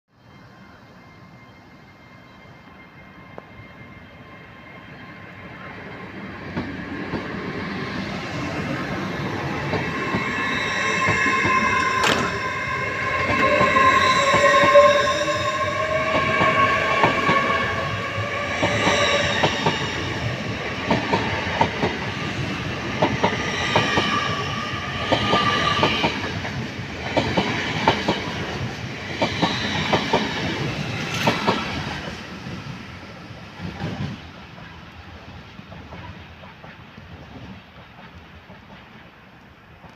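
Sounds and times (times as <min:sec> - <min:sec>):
train wheels clicking on track: 0:05.5 - 0:39.9.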